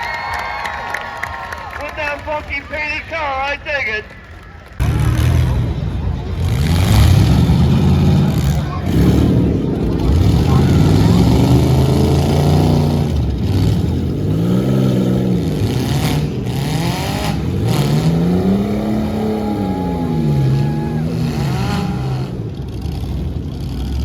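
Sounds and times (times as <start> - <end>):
car engines revving: 1.1 - 24.0.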